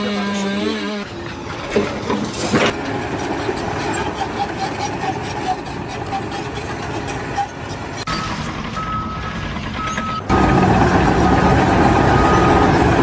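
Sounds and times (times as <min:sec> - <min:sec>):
engine running steadily: 0:01.0 - 0:13.0.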